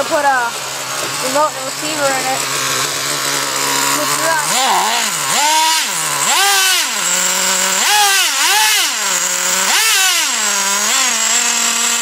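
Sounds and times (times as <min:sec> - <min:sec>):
small engine revving: 0:00.0 - 0:12.0.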